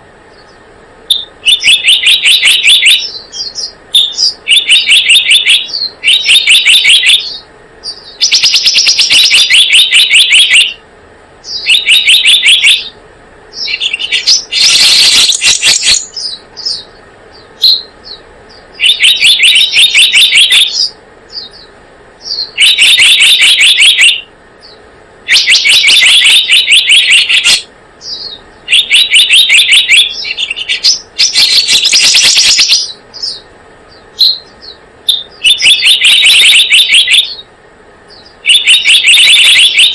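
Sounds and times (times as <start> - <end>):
bird high chirping bursts: 0.3 - 10.8, 11.4 - 39.9.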